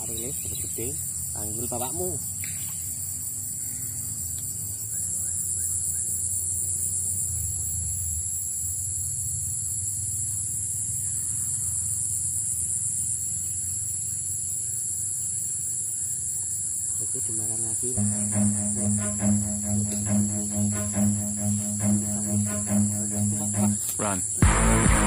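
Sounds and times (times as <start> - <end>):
insect chorus: 0.0 - 25.0.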